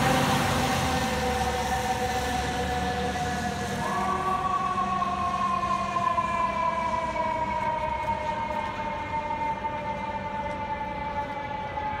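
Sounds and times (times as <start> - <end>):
fire engine siren: 0.0 - 12.0
low traffic rumble: 0.0 - 12.0.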